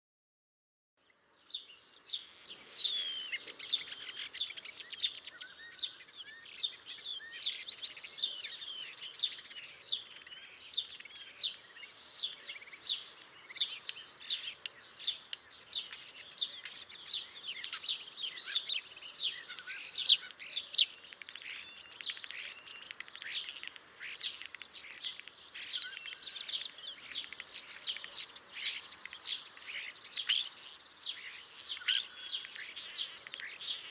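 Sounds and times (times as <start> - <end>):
starlings singing: 1.0 - 33.9.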